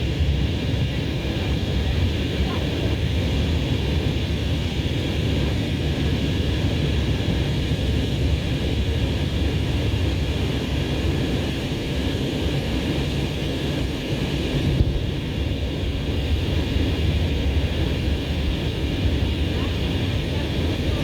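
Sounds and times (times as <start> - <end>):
airplane cabin engine roar: 0.0 - 21.0.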